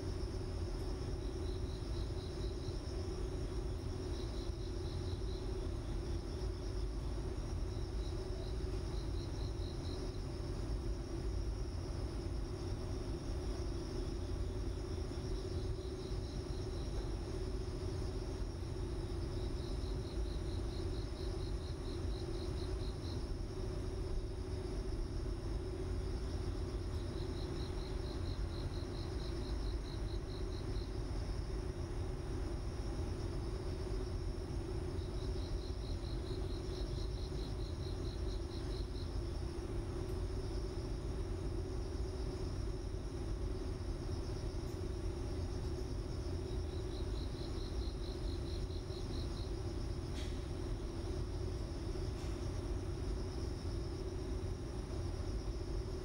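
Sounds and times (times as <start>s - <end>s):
cricket chirping: 0.0s - 56.0s
steady low hum: 0.0s - 56.0s.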